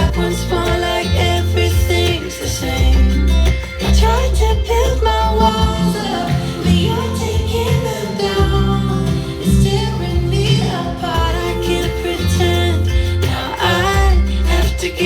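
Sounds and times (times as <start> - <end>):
song with singing guitar and bass: 0.0 - 15.0.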